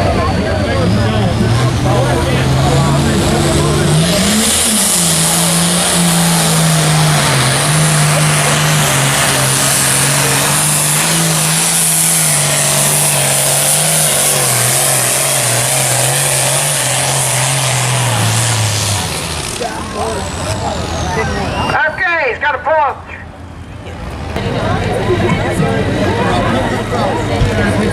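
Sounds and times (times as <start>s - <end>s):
tractor engine labouring: 0.0s - 27.9s.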